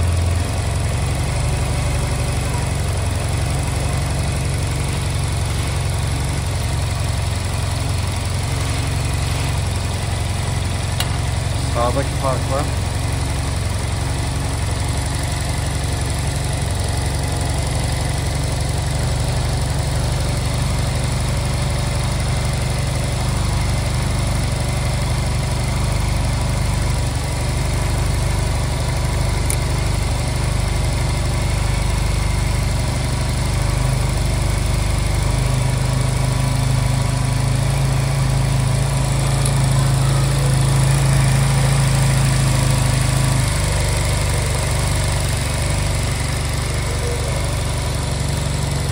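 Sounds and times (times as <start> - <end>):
scooter engine idling: 0.0 - 48.9.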